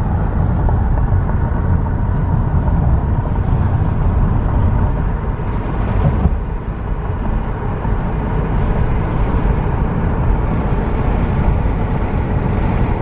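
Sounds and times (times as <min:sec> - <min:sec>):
car road and wind rumble: 0:00.0 - 0:13.0.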